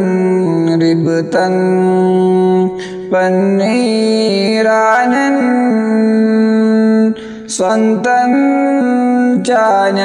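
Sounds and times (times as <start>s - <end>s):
man singing: 0.0s - 10.0s.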